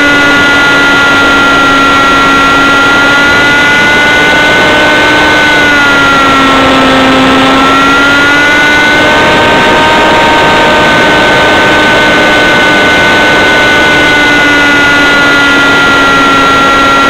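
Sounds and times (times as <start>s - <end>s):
model aircraft engine at high speed: 0.0s - 17.0s.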